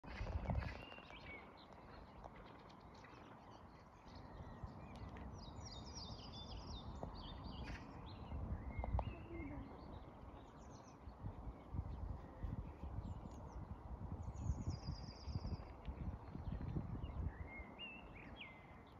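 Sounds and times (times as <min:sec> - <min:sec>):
songbirds chirping: 0:00.0 - 0:18.9.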